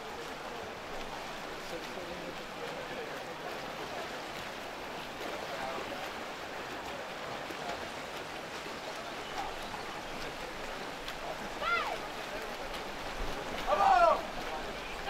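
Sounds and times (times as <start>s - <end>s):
swimmers splashing in pool: 0.0s - 15.0s.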